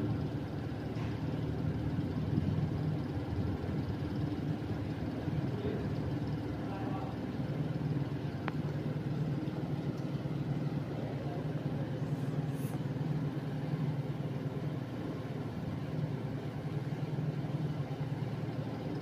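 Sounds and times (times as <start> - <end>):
ceiling fan humming: 0.0 - 19.0.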